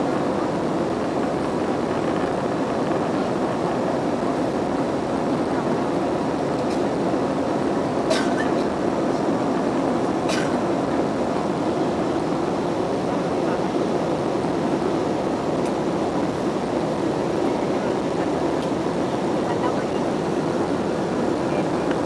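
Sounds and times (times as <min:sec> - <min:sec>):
jet engine rush: 0:00.0 - 0:22.0.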